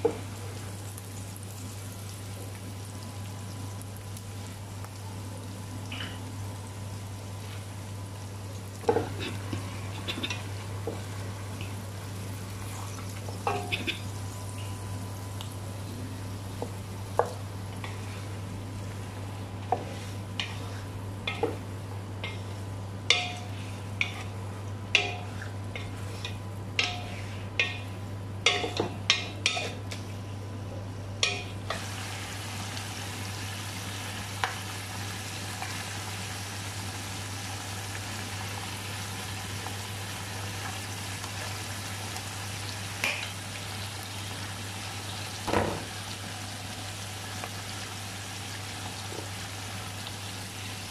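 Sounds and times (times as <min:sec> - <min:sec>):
chicken sizzling in oil: 0:00.0 - 0:29.8, 0:31.2 - 0:50.9
low steady hum: 0:00.0 - 0:47.2.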